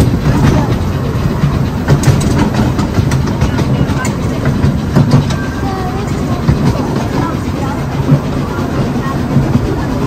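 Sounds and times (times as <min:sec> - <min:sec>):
miniature train rumble: 0:00.0 - 0:10.0
wheels clicking on rails: 0:00.0 - 0:10.0.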